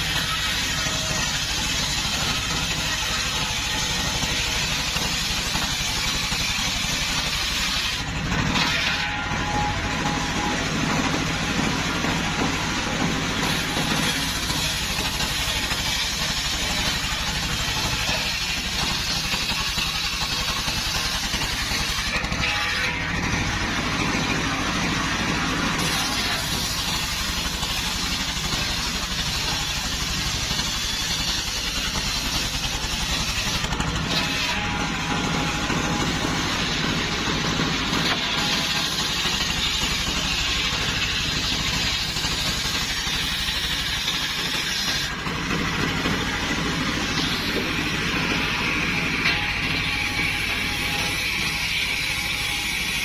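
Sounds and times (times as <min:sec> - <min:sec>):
circular saw ripping logs: 0:00.0 - 0:53.0
sawmill engine throbbing: 0:00.0 - 0:53.0.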